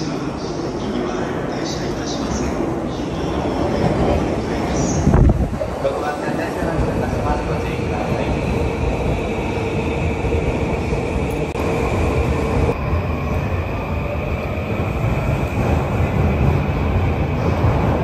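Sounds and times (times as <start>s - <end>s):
electric train wheels rumbling: 3.2s - 18.0s.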